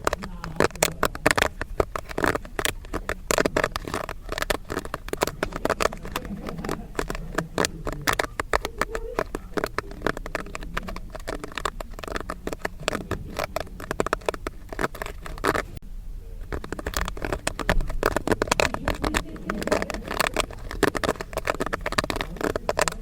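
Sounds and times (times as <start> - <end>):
popcorn popping: 0.0 - 15.8, 16.4 - 23.0.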